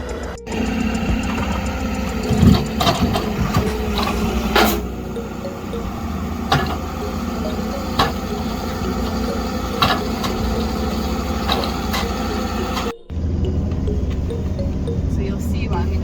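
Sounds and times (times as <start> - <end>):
engine running with sharp knock: 0.0 - 15.2
second engine running: 0.0 - 16.0.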